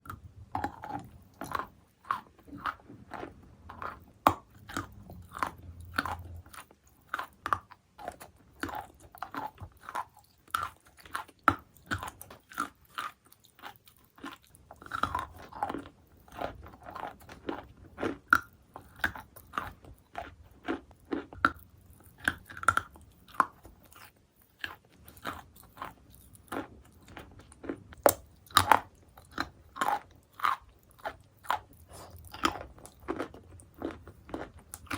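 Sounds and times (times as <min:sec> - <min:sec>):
chalk crunching as chewed: 0:00.1 - 0:34.9.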